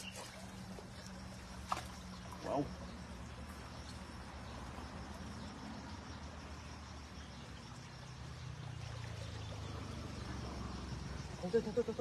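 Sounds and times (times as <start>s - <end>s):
faint high insect trill: 0.0s - 12.0s
stream water rushing over stones: 0.0s - 12.0s.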